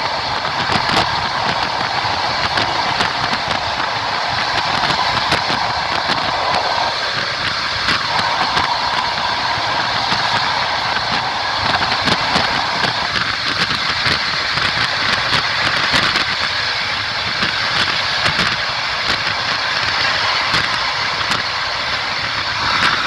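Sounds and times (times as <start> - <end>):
train wheels rolling on rails: 0.0 - 23.0
wheels clacking over track: 0.0 - 23.0.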